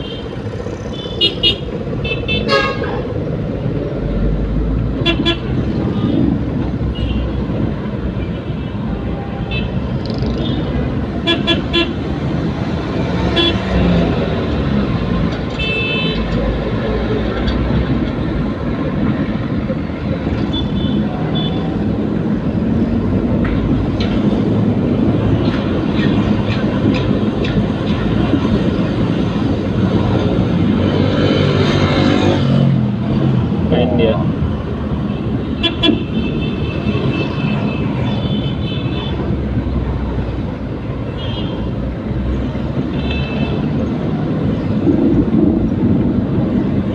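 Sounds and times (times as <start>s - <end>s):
vehicle engine and road noise: 0.0s - 46.9s.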